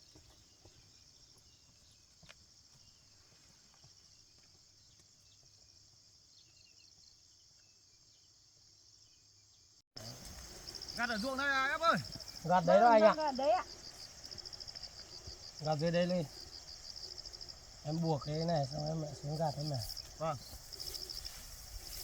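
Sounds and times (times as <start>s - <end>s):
insect chirring: 2.6s - 22.0s.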